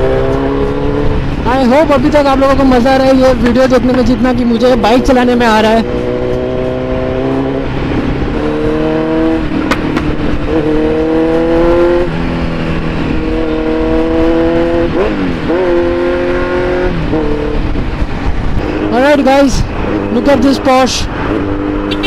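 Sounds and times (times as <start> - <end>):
motorcycle engine shifting gears: 0.0 - 22.0.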